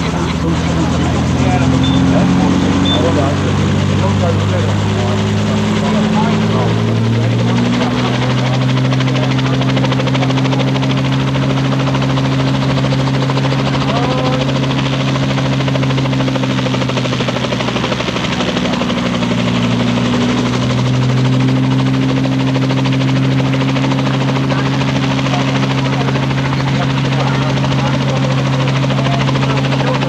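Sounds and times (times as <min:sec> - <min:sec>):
helicopter engine and rotors: 0:00.0 - 0:30.0.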